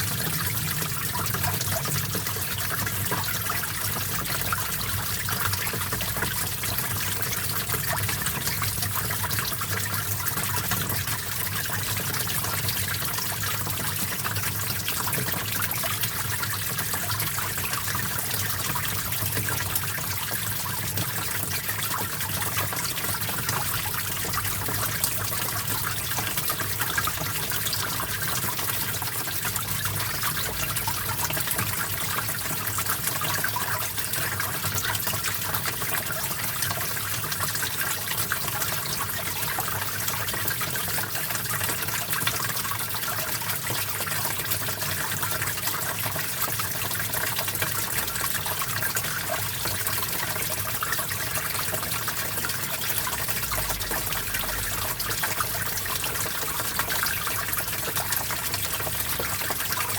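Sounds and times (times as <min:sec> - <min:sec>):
small stream trickling: 0:00.0 - 0:59.9.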